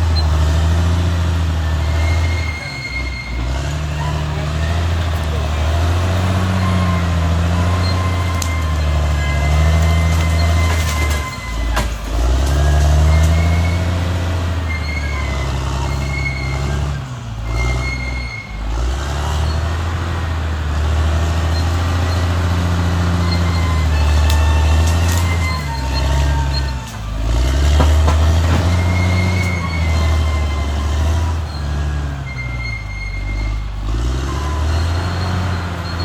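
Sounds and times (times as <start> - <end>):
bulldozer diesel engine drone: 0.0 - 36.0.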